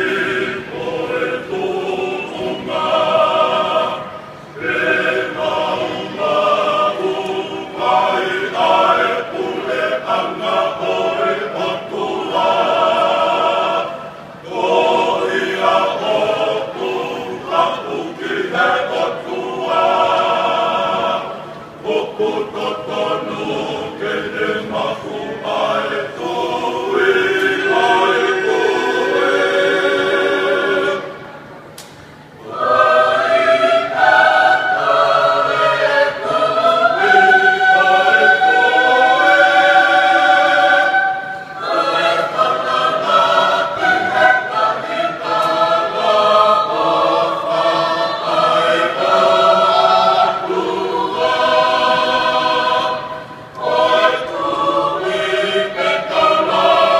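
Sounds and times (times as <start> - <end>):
choir singing unaccompanied: 0.0 - 56.9.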